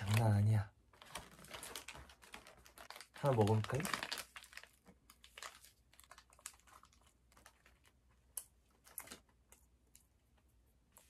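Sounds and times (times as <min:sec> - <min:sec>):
plastic wrapper crinkling: 0:00.0 - 0:10.1.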